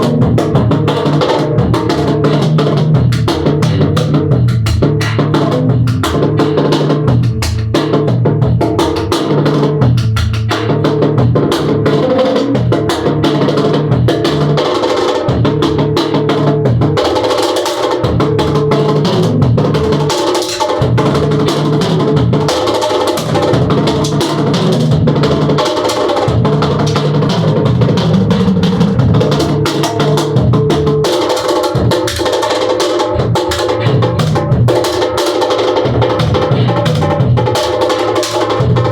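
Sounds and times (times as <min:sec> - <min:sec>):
drum kit beat: 0:00.0 - 0:38.9.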